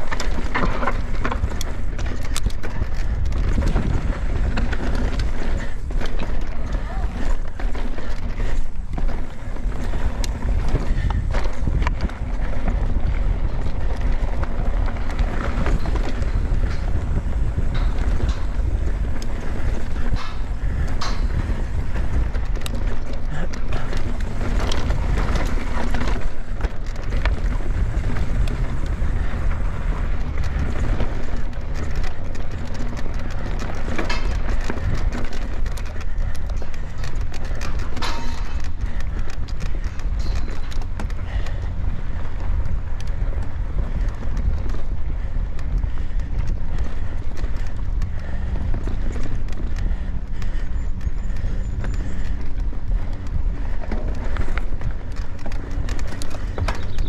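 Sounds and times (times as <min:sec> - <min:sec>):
bike chain and frame rattling: 0:00.0 - 0:57.0
bike tyres rolling over dirt: 0:00.0 - 0:57.0
wind rumble on microphone: 0:00.0 - 0:57.0.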